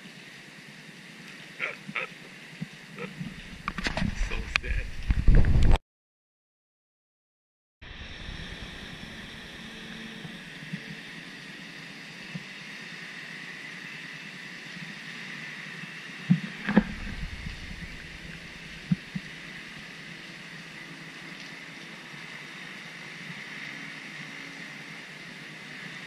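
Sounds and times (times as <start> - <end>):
rain hissing on water: 0.0 - 4.9, 7.8 - 26.0.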